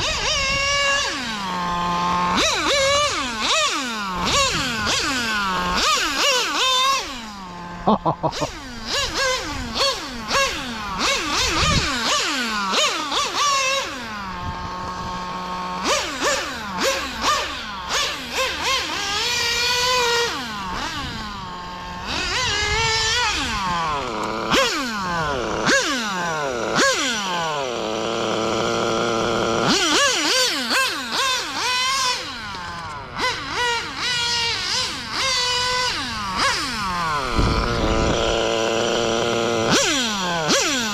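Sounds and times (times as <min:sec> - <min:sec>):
model engine revving: 0:00.0 - 0:40.9.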